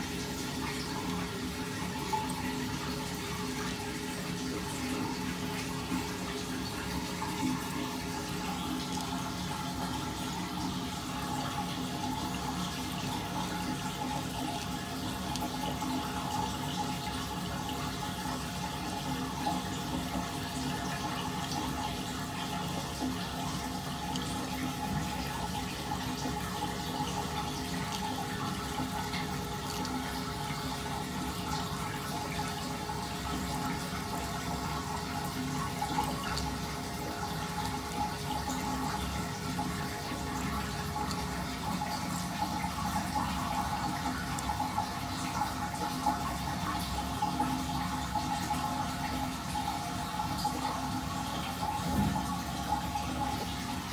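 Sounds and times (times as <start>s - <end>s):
water swirling down a drain: 0.0s - 53.9s.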